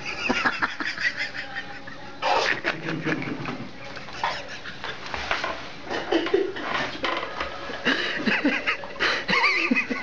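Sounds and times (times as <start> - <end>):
people laughing and giggling: 0.0 - 6.9, 7.7 - 10.0.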